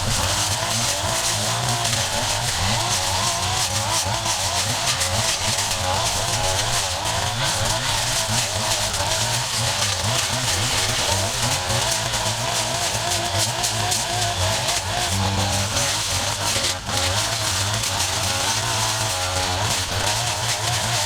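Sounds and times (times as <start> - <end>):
yard equipment engines running: 0.0 - 21.0.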